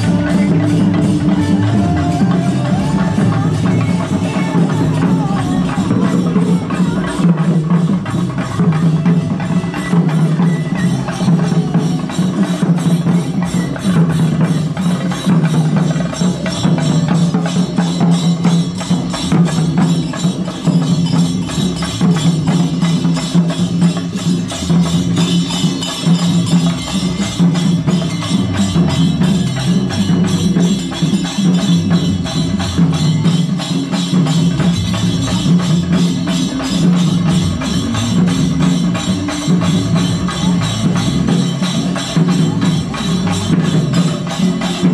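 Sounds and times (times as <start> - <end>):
procession drums playing: 0.0 - 44.9.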